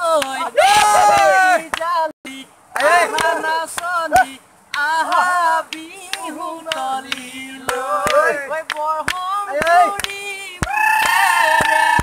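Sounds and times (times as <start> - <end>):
men singing: 0.0 - 10.7
sharp hand claps: 0.2 - 1.9, 2.8 - 12.0.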